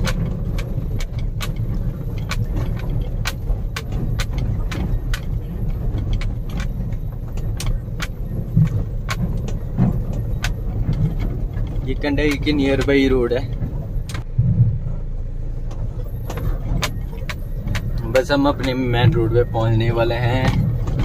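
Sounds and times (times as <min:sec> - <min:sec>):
loose parts clicking and rattling: 0:00.0 - 0:14.3, 0:15.7 - 0:21.0
engine and road rumble: 0:00.0 - 0:21.0.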